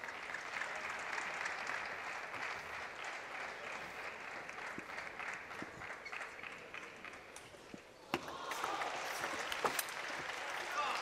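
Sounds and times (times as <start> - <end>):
crowd applauding: 0.0 - 7.3, 8.3 - 11.0.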